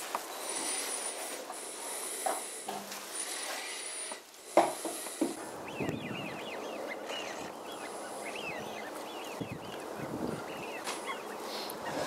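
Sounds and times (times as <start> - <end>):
flock of birds calling: 0.0 - 12.0
steady background hiss: 0.0 - 12.0.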